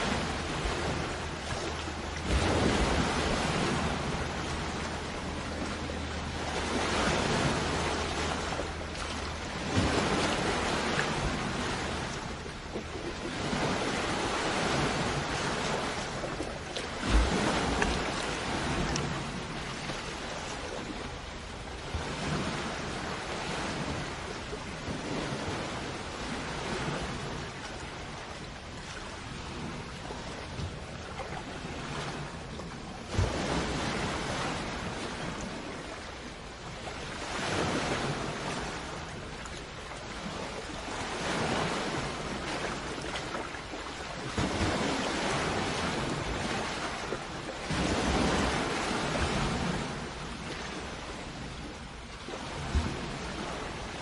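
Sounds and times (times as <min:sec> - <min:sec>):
ocean waves washing in: 0:00.0 - 0:54.0.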